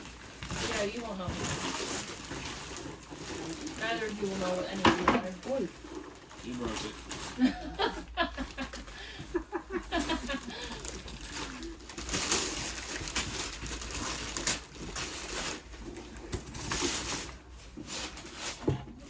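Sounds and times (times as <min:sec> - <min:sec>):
wrapping paper rustling and tearing: 0:00.0 - 0:19.0.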